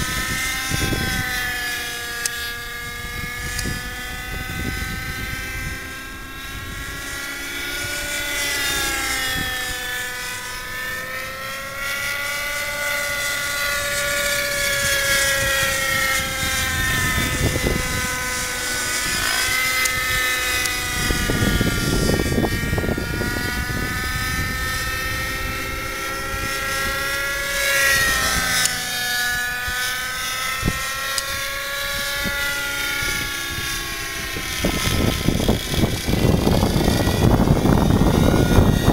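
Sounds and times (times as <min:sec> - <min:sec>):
model helicopter engine and rotors whining: 0:00.0 - 0:38.9.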